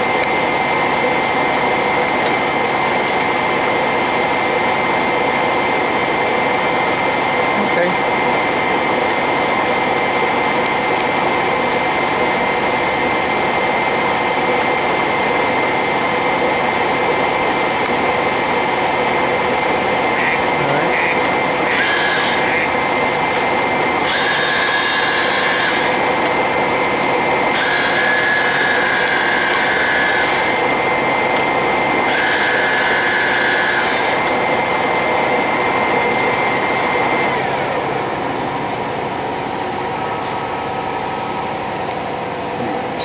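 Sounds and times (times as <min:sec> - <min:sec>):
higher-pitched gear whine: 0:00.0 - 0:43.0
lathe gear whine: 0:00.0 - 0:43.0.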